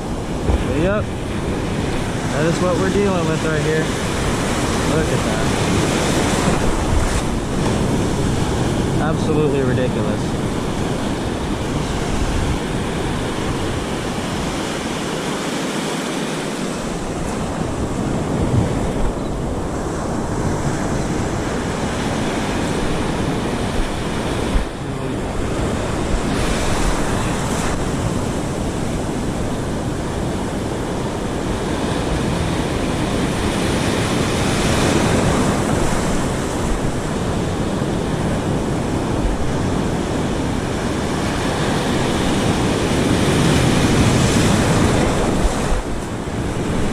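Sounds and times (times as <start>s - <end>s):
ocean surf breaking: 0.0s - 46.9s
wind rumbling on microphone: 0.0s - 46.9s.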